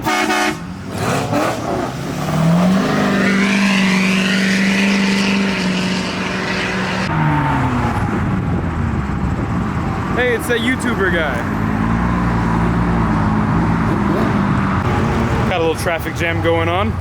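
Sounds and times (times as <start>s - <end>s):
car engine revving: 0.0s - 15.6s.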